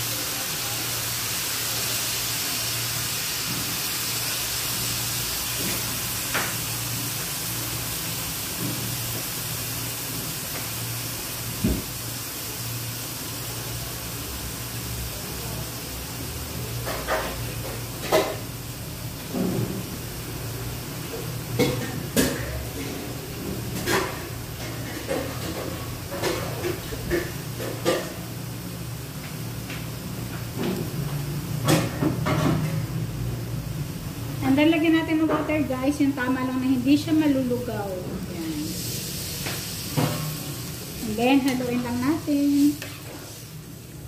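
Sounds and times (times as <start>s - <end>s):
wok hissing on gas burner: 0.0s - 44.0s.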